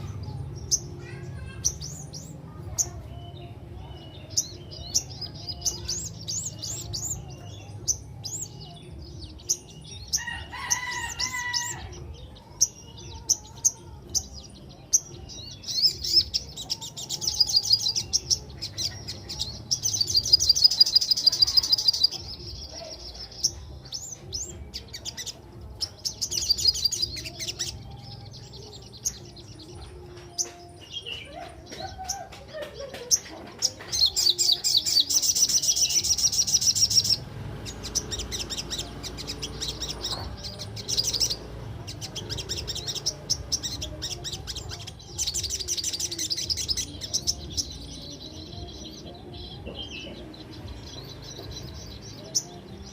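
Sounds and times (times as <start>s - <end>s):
bird singing chirps and trills: 0.0s - 52.9s.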